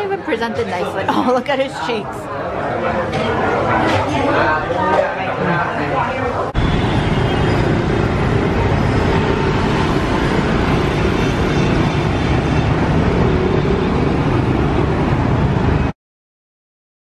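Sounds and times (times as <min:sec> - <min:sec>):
busy street traffic of motorbikes and cars: 0:00.0 - 0:15.9.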